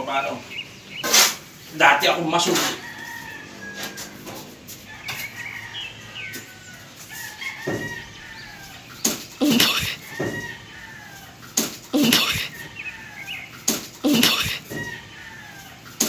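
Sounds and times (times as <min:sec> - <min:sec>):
chickens clucking: 0:00.0 - 0:16.0
rooster crowing: 0:02.3 - 0:16.0.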